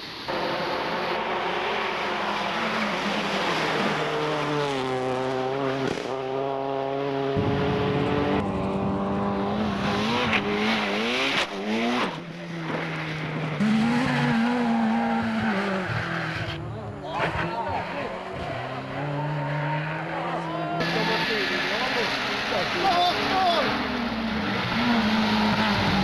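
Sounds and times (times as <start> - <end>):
rally car engines revving: 0.1 - 26.0.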